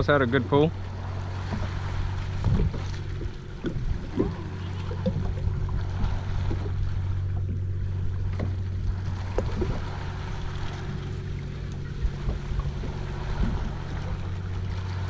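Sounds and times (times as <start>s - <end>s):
steady low hum: 0.0s - 15.0s
water lapping at hull: 0.0s - 15.0s
light knocks on hull: 1.4s - 15.0s.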